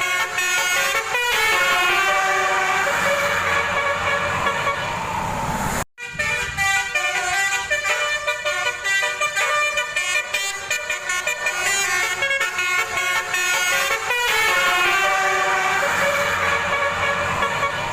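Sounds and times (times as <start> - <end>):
musical air horn tooting tune: 0.0 - 5.0, 6.0 - 17.9.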